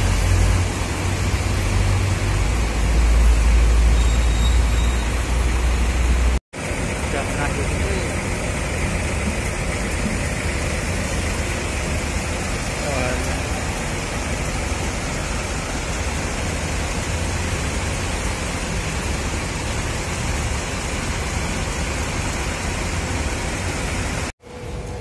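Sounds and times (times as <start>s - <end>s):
bus engine idling: 0.0s - 25.0s.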